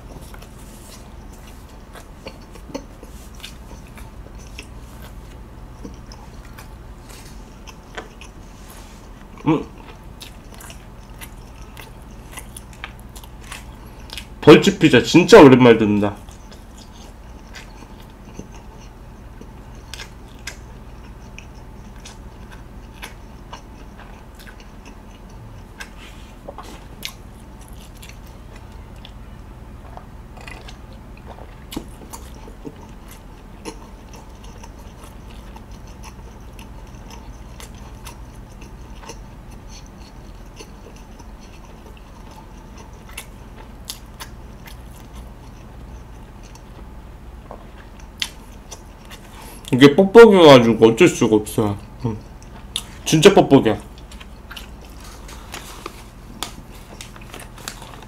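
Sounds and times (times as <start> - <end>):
person chewing food: 0.0 - 14.4, 16.1 - 49.8, 51.4 - 58.0
steady low hum: 0.0 - 58.0.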